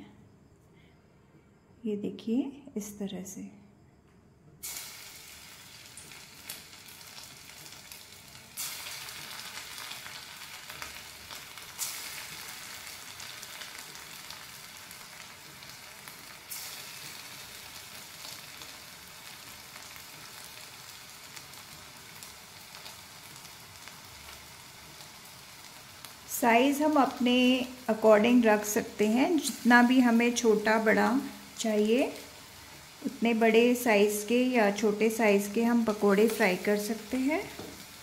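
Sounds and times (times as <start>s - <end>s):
batter deep-frying in hot oil: 4.6s - 38.0s.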